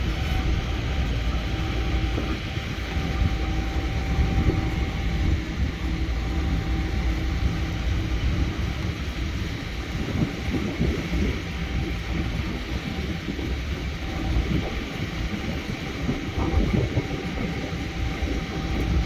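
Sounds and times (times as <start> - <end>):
diesel engine rumble: 0.0 - 19.0
faint steady whine: 0.0 - 19.0.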